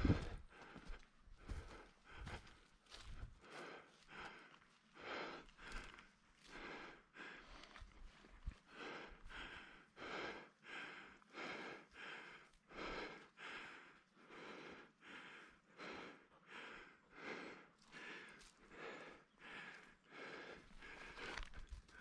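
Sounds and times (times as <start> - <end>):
heavy rhythmic breathing: 0.0 - 22.0.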